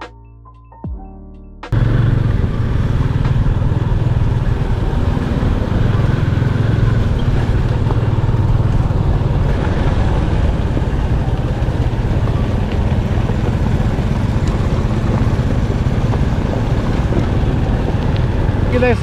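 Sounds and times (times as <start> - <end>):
motorcycle engine hum: 1.7 - 19.0
rushing noise: 1.8 - 19.0.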